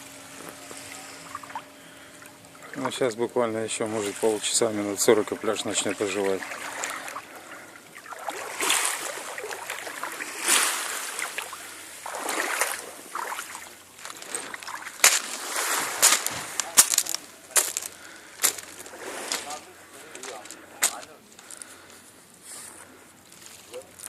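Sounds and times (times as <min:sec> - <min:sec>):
small waves washing onto beach: 0:02.2 - 0:21.6.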